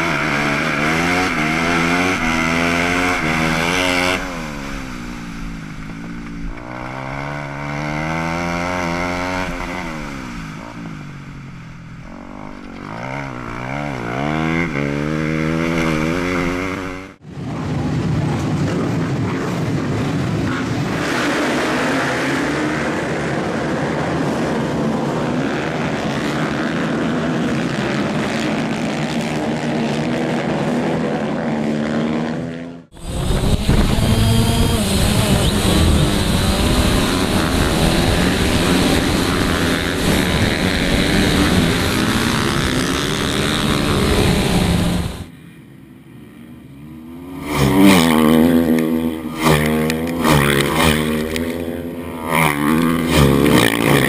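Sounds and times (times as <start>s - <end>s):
motorcycle engine revving: 0.0s - 17.2s, 18.7s - 54.0s
pack of motorcycles running: 0.0s - 54.0s.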